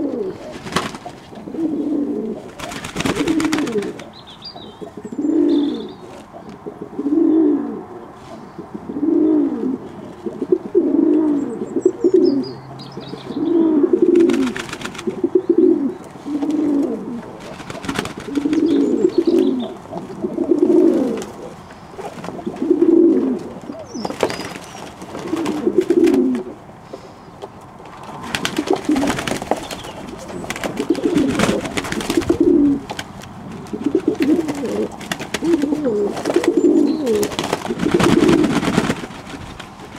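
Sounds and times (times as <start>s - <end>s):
knocks and rustles of birds: 0.0s - 6.6s, 14.0s - 39.9s
pigeons cooing: 0.0s - 39.9s.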